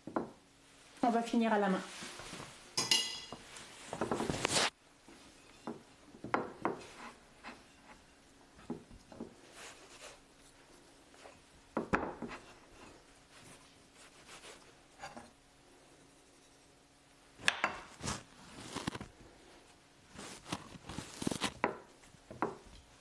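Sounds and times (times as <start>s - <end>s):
hands kneading dough on a plate: 0.0s - 23.0s.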